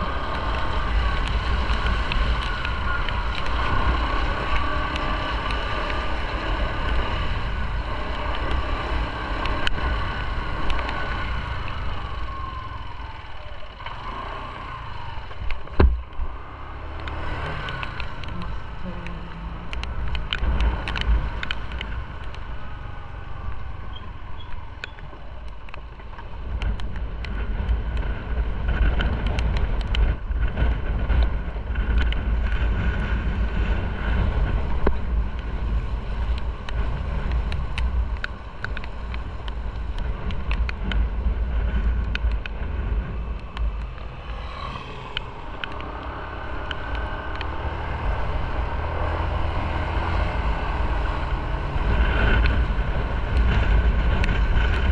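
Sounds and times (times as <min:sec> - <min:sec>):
motorcycle engine rumble: 0:00.0 - 0:54.9
tyre noise on wet road: 0:00.0 - 0:54.9
wind buffeting microphone: 0:00.0 - 0:54.9.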